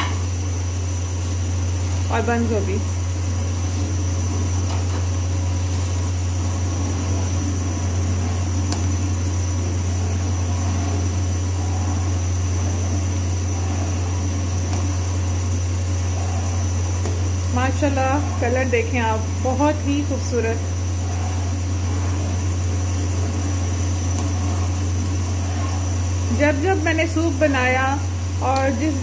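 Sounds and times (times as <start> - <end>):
soup boiling in a pot: 0.2 - 29.0.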